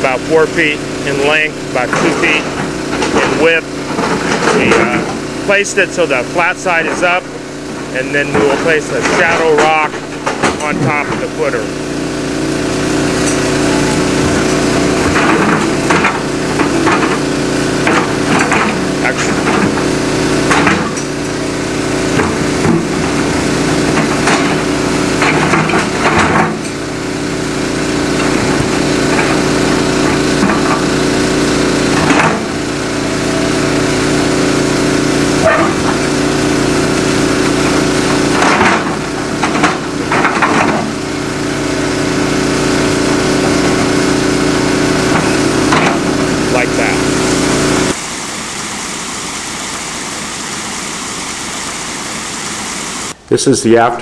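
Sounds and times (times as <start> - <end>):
excavator engine running: 0.0 - 53.3.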